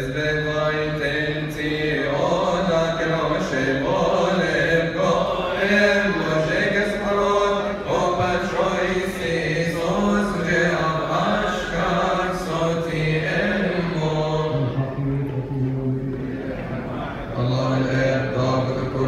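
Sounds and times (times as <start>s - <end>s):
men chanting a hymn in unison: 0.0s - 19.0s.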